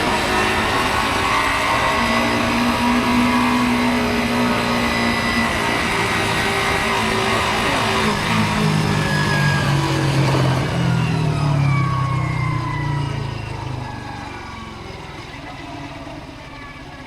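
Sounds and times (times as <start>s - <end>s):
motorcycle engine slowing down: 0.0s - 17.0s.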